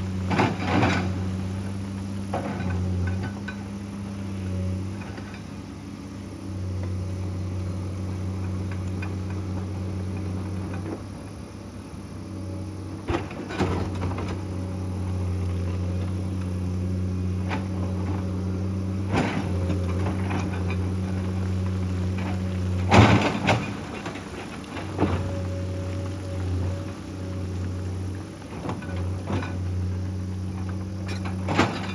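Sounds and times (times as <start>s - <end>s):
excavator diesel engine: 0.0s - 31.9s.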